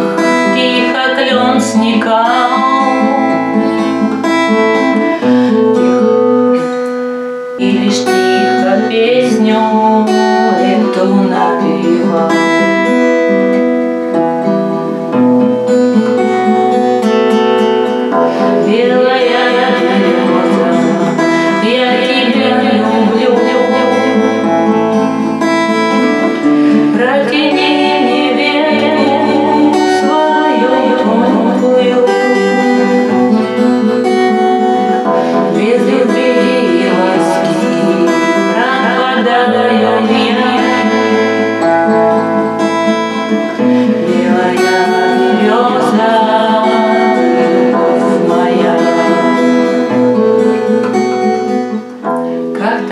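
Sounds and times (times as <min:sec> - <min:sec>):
woman singing: 0:00.0 - 0:06.7, 0:07.6 - 0:13.6, 0:16.1 - 0:50.7, 0:51.4 - 0:52.9
acoustic guitar strumming: 0:00.0 - 0:52.9.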